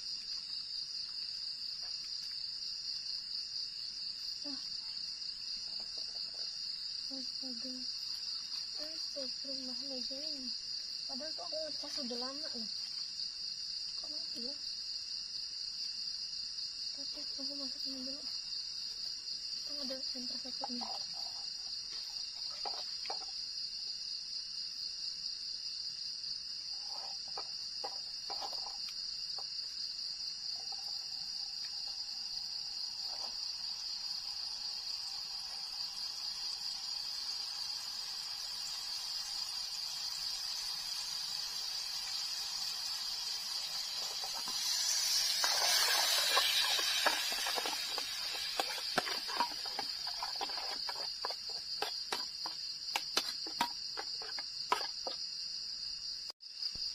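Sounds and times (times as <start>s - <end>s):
night insects chirring: 0.0s - 56.9s.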